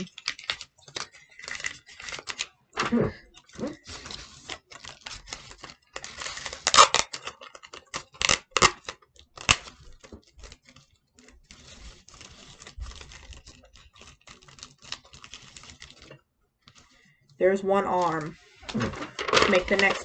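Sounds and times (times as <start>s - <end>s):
paper rustling: 0.0s - 2.5s, 3.2s - 20.0s
paper and tape crinkling: 0.0s - 2.6s, 3.2s - 20.0s.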